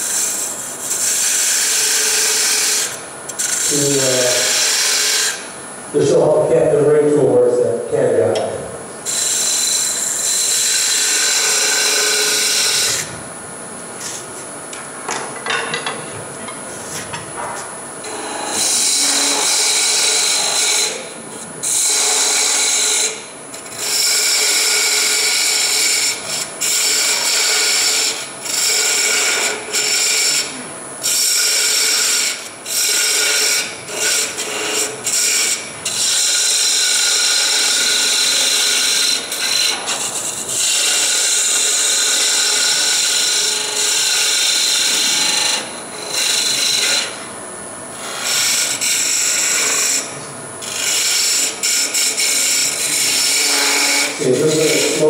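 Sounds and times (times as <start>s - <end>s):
tool cutting wood on a lathe: 0.0s - 6.4s, 9.0s - 13.2s, 18.0s - 47.3s, 47.9s - 55.0s
lathe whine: 0.0s - 14.8s, 15.5s - 55.0s.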